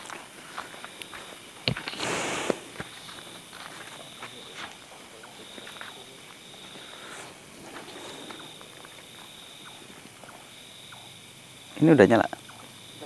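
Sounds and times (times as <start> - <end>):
people shifting on bare ground: 0.0 - 10.6.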